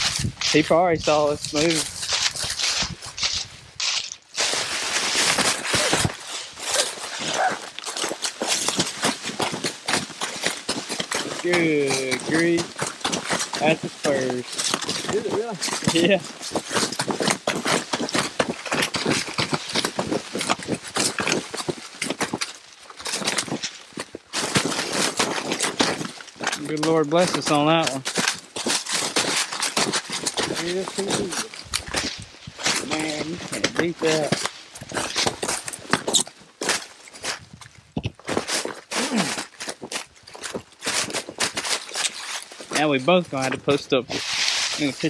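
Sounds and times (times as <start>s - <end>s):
footsteps through dry leaves: 0.0s - 45.0s.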